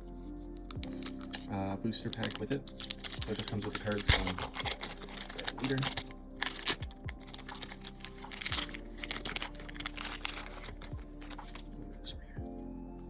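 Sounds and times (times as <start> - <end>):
wrapping crinkling and rustling: 0.3 - 11.7
packaging clicks and taps: 0.6 - 11.6.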